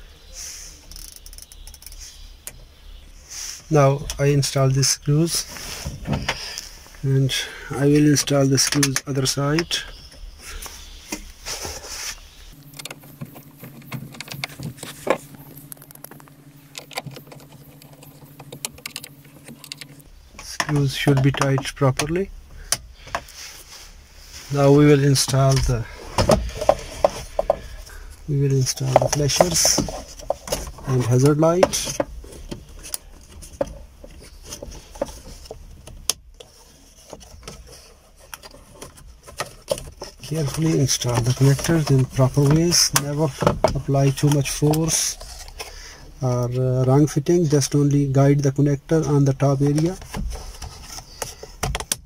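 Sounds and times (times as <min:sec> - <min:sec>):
steady low hum: 0:00.0 - 0:52.0
light rubbing of plastic parts: 0:00.3 - 0:52.0.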